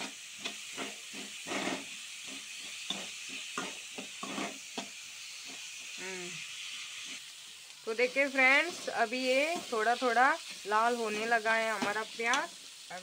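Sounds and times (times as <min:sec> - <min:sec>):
metal spoon scraping a pan: 0:00.0 - 0:07.3, 0:08.3 - 0:12.8
onions sizzling in oil: 0:00.0 - 0:13.0.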